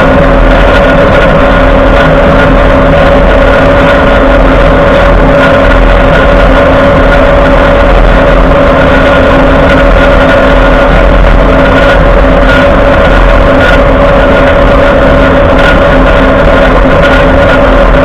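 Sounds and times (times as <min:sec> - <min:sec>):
grinding whine from axle: 0:00.0 - 0:18.0.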